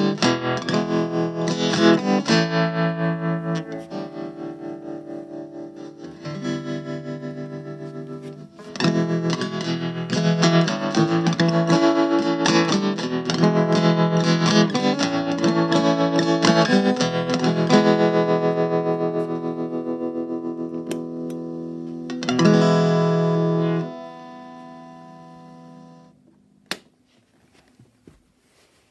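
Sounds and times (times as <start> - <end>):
electric guitar with tremolo: 0.0 - 26.1.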